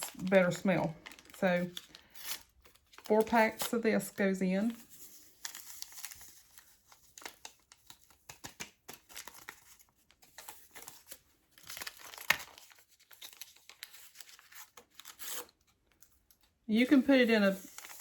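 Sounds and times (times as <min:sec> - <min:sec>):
paper packets crinkling and tearing: 0:00.0 - 0:18.0.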